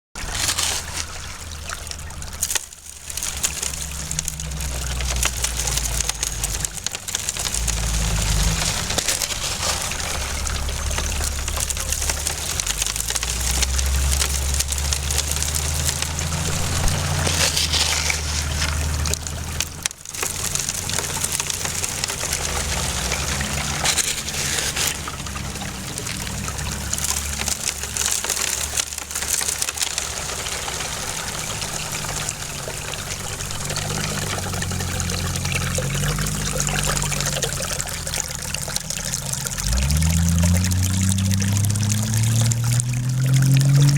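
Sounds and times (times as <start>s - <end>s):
water pouring and trickling: 0.2s - 43.9s.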